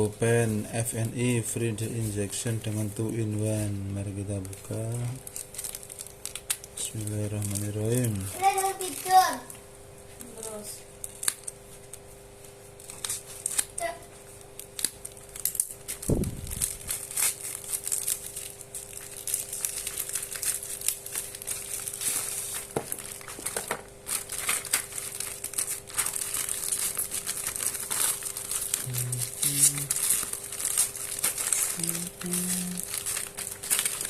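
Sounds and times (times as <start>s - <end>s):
packaging crinkling and rustling: 0.2s - 9.5s, 10.2s - 34.0s.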